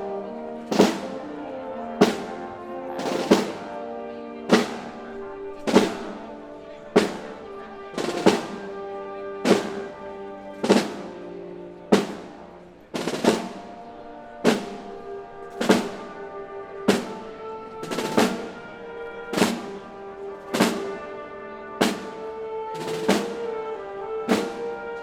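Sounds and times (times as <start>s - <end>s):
orchestra playing held chords: 0.0s - 25.0s.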